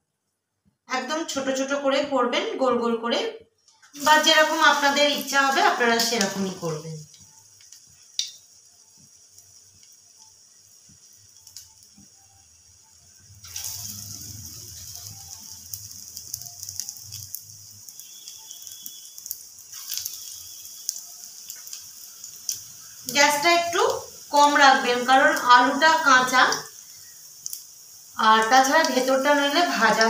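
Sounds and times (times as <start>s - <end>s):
crackle of frying oil: 3.3s - 30.0s
oil sizzling in a frying pan: 3.6s - 30.0s.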